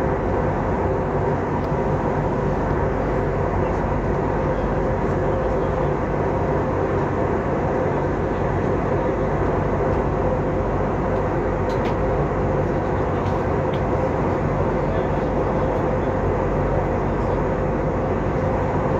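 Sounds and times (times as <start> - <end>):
airliner cabin engine and airflow noise: 0.0 - 18.9.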